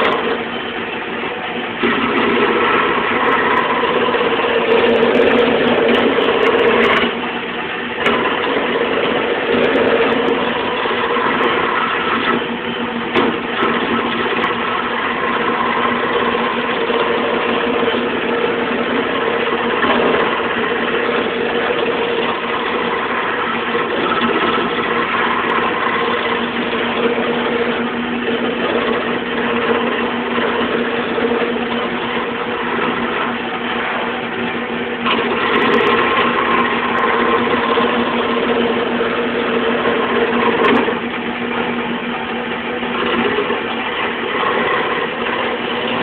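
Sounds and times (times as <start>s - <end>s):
chisel hissing on spinning wood: 0.0s - 46.0s
lathe motor hum: 0.0s - 46.0s.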